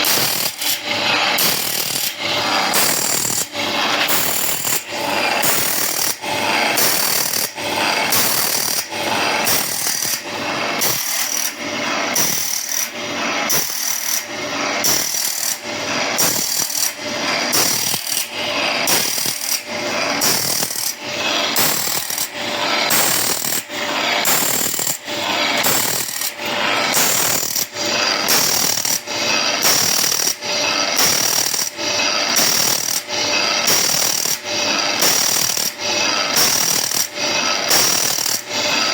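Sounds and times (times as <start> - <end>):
grinding wheel sharpening saw blade: 0.0 - 38.9.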